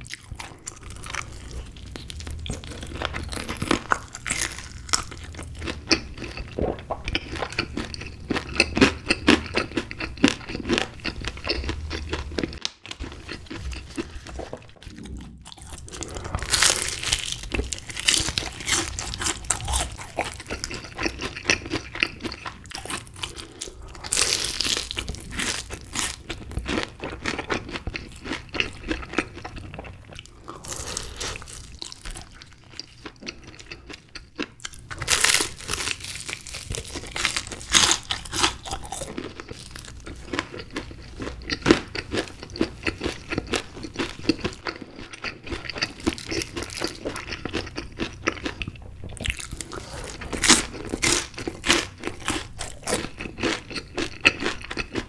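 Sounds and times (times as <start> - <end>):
crunching fried chicken: 0.0 - 55.0
wet chewing: 0.0 - 55.0.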